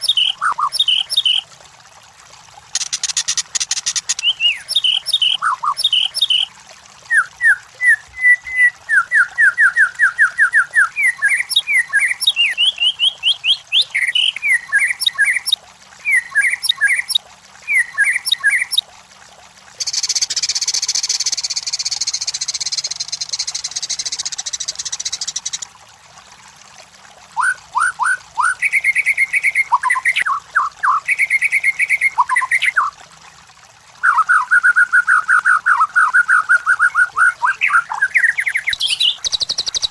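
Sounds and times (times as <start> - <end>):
bird whistled song: 0.0 - 1.4, 2.8 - 6.5, 7.1 - 18.8, 19.8 - 25.6, 27.4 - 32.9, 34.0 - 39.9.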